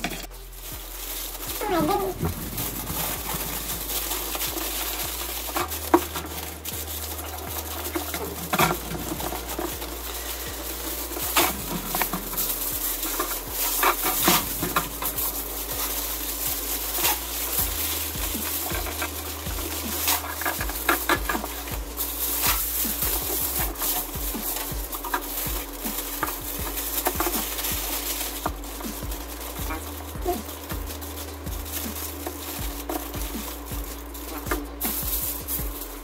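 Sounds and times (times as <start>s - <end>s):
aluminum foil crinkling: 0.0s - 36.0s
steady hiss: 0.0s - 36.0s.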